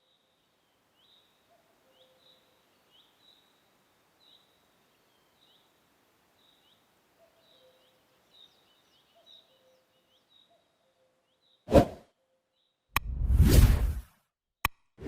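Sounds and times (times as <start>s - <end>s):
faint birds chirping: 0.0s - 12.9s.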